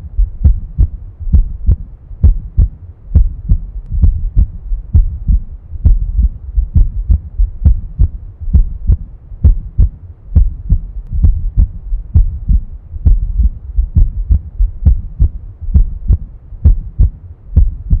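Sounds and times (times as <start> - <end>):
heartbeat lub-dub: 0.0 - 18.0.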